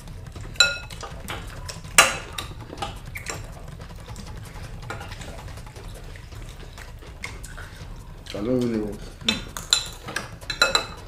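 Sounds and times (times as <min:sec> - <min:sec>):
utensils clinking against dishes: 0:00.0 - 0:11.0.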